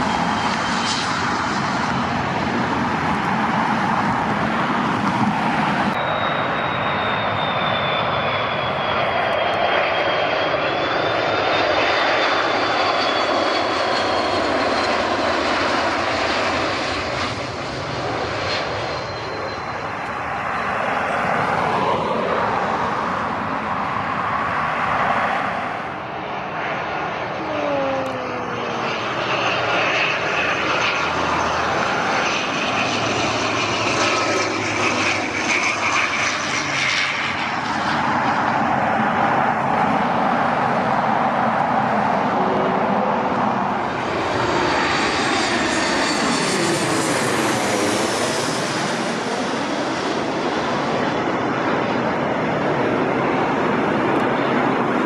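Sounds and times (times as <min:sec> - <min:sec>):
jet engine rumble and whine: 0:00.0 - 0:55.0
turboprop plane on approach: 0:00.0 - 0:55.0.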